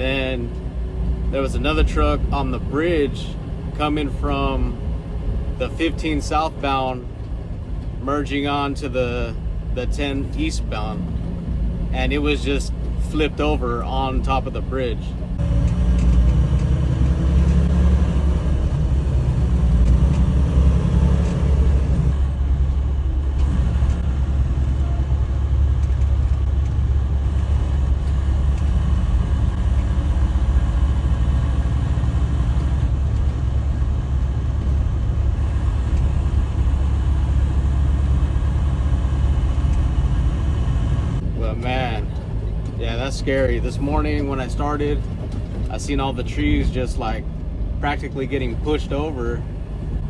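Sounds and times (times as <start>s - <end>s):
road noise inside cab: 0.0s - 50.0s
truck engine rumble: 0.0s - 50.0s.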